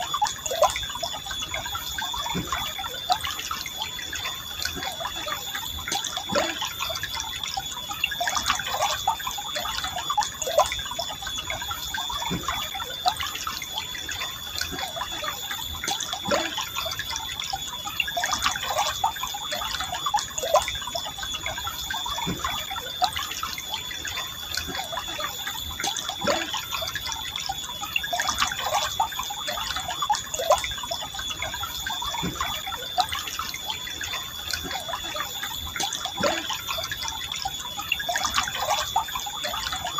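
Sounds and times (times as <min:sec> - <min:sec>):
water gurgles and drips: 0:00.0 - 0:39.9.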